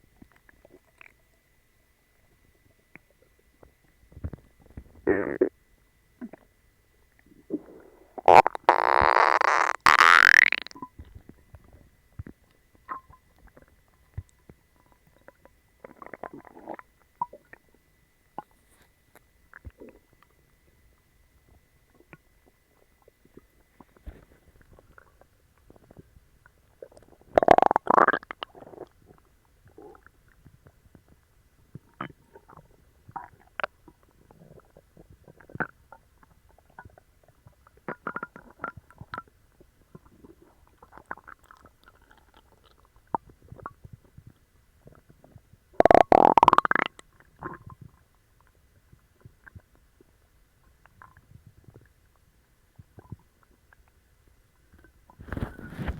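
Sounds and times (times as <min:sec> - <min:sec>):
stomach growling and gurgling: 0:00.0 - 0:01.4, 0:02.6 - 0:05.6, 0:06.2 - 0:17.8, 0:19.5 - 0:20.4, 0:21.5 - 0:55.9.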